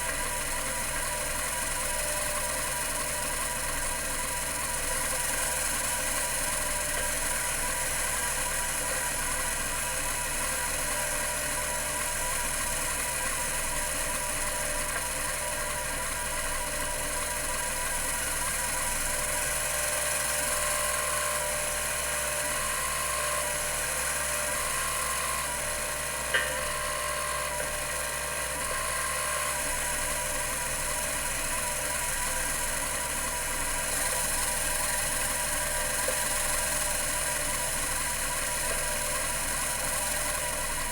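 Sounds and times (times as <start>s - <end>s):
hard drive whine and hum: 0.0s - 40.9s.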